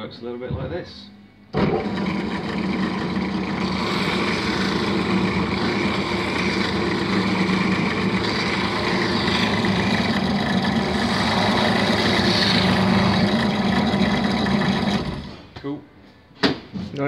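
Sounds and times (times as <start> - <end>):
drill motor running: 1.6 - 15.5.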